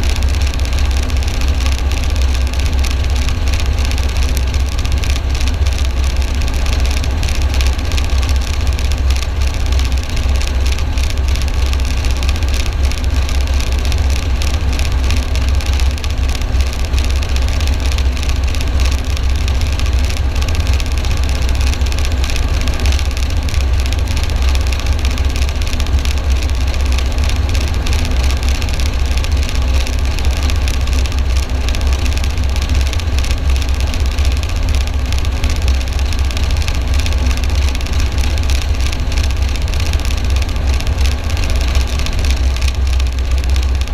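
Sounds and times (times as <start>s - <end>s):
helicopter rotor drone: 0.0s - 43.9s.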